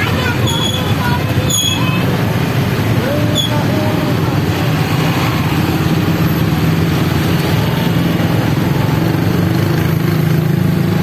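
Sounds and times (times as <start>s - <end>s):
large engine idling: 0.0s - 11.0s.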